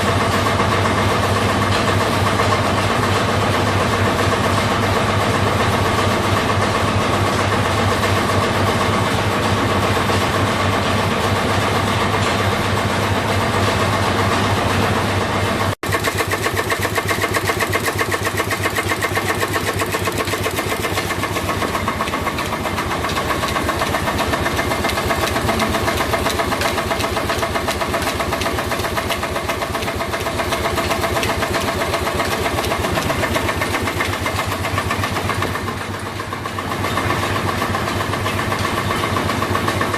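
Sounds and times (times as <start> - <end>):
stationary engines running: 0.0 - 39.9.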